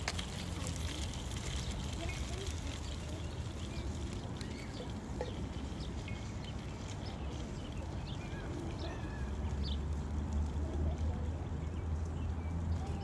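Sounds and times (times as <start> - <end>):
low rumble of wind or traffic: 0.0 - 13.0.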